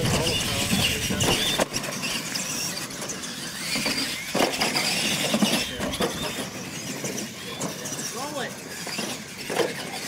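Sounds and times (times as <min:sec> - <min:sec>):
toy trucks knocking: 0:00.0 - 0:08.1
toy truck motors whining: 0:00.0 - 0:10.0.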